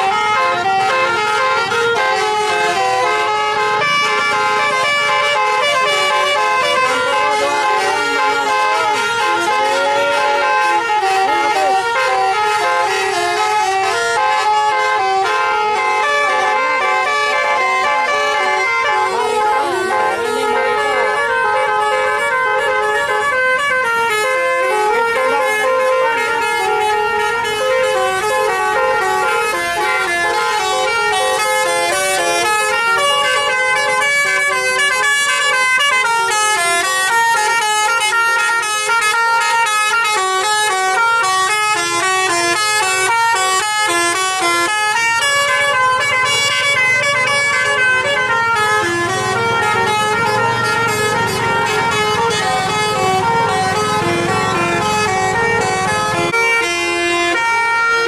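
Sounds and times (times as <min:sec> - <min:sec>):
bus horns playing a melody: 0:00.0 - 0:58.0.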